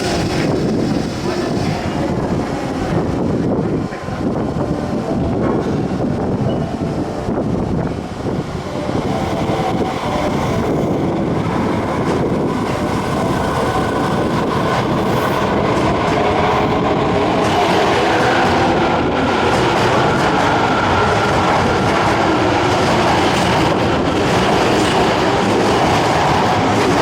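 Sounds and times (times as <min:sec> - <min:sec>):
train rail rumble: 0:00.0 - 0:27.0.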